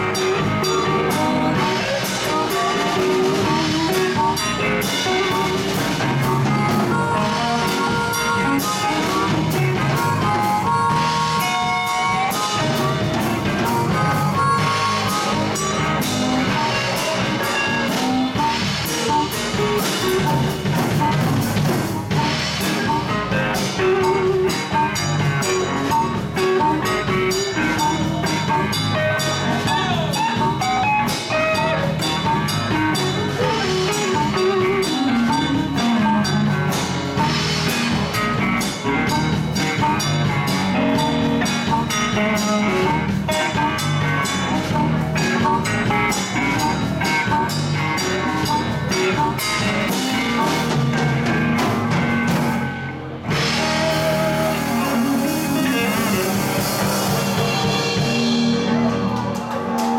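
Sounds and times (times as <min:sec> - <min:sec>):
drum kit beat: 0:00.0 - 0:59.9
live blues band playing: 0:00.0 - 0:59.9.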